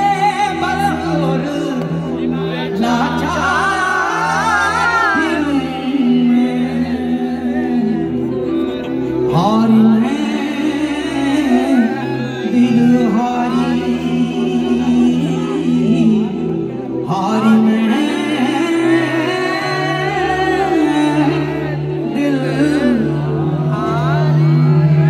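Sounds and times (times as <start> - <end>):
person singing: 0.0 - 25.0
steady bass notes: 0.0 - 25.0.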